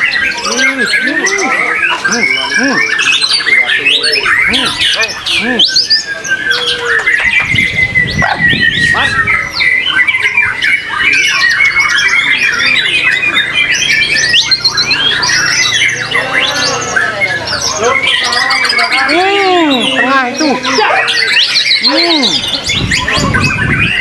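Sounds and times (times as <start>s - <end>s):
birds singing whistles and trills: 0.0s - 24.0s.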